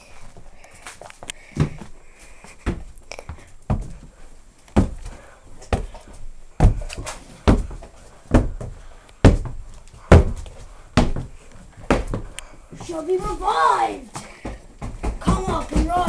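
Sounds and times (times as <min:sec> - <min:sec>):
heavy footsteps thudding: 0:01.5 - 0:16.0.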